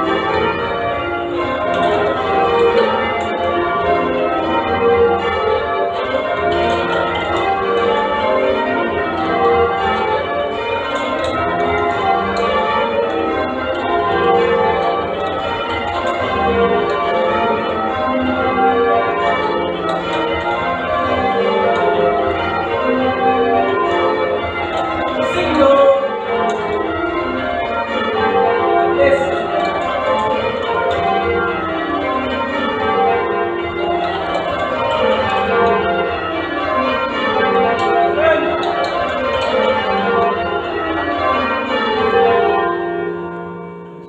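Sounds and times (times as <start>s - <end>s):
church bells change ringing: 0.0s - 44.0s.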